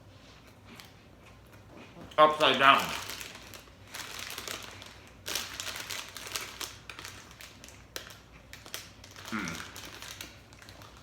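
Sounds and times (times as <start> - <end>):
plastic snack bag crinkling: 2.2 - 11.0.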